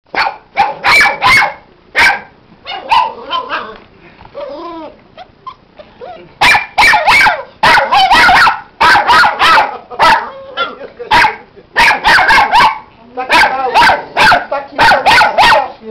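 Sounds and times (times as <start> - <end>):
puppy barking: 0.1 - 3.8, 6.4 - 15.8.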